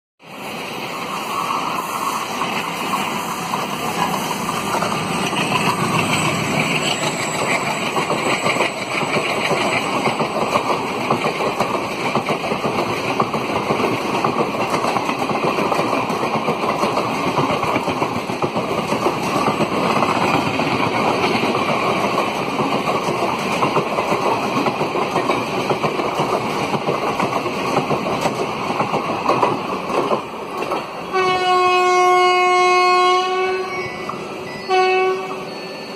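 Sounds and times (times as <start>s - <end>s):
diesel locomotive engine passing: 0.2s - 35.9s
train coaches rolling on rails: 0.2s - 35.9s.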